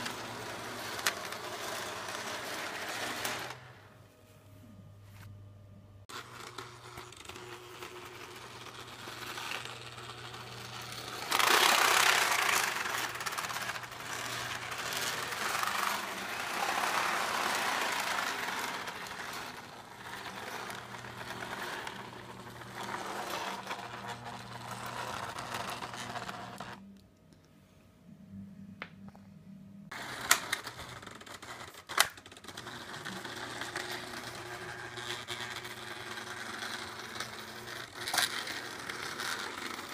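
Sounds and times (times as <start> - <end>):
model train motor whirring: 0.0 - 3.6, 6.1 - 26.8, 29.9 - 39.9.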